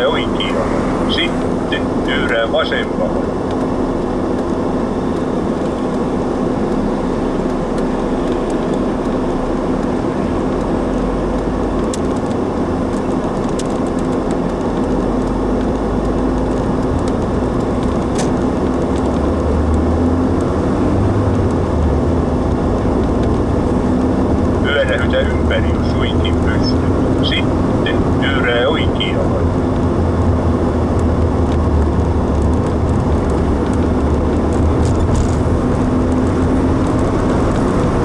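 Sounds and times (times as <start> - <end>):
car engine and tyre hum: 0.0 - 38.0.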